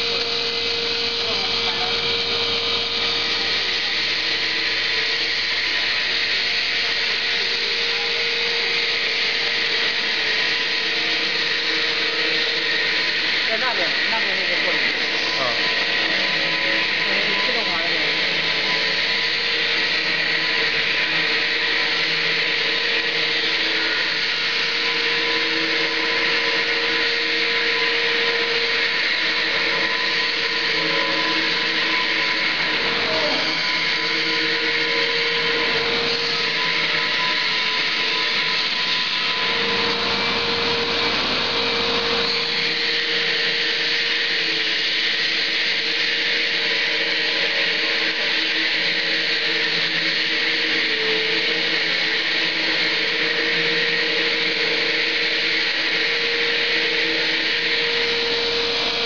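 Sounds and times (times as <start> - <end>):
machinery hum: 0.0 - 59.0.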